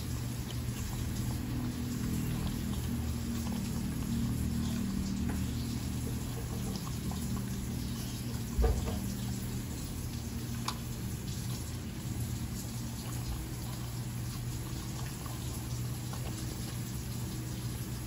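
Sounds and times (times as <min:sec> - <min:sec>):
dog eating wet food: 0:00.0 - 0:18.0
steady low hum: 0:00.0 - 0:18.0.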